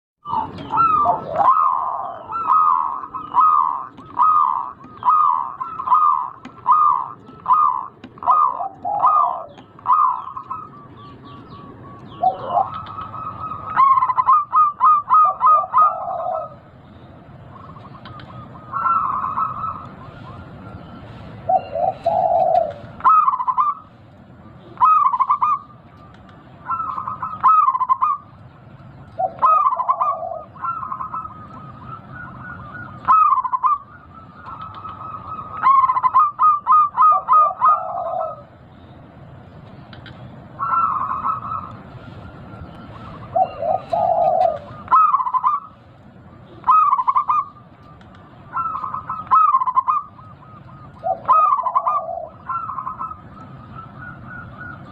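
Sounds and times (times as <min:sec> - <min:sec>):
dove cooing: 0:00.2 - 0:28.4, 0:29.0 - 0:38.6, 0:40.2 - 0:54.9.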